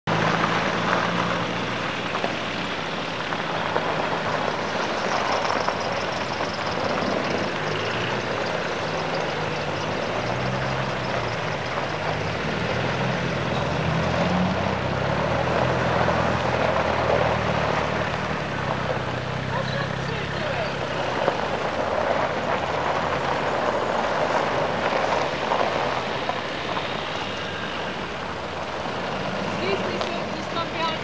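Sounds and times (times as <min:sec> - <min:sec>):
vehicles driving slowly past: 0:00.1 - 0:31.0.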